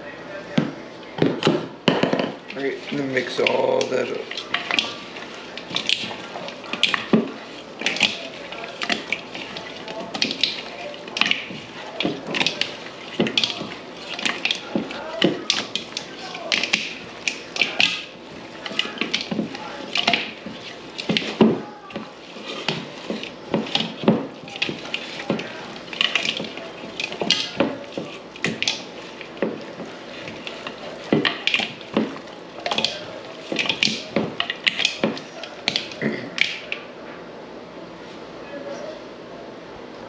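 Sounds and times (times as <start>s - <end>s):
hands squishing raw meat: 2.5s - 36.8s.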